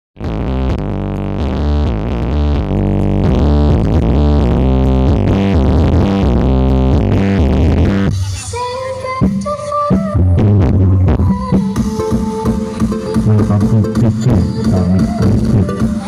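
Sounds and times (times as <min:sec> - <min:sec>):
synthesizer music with heavy bass: 0:00.2 - 0:16.0.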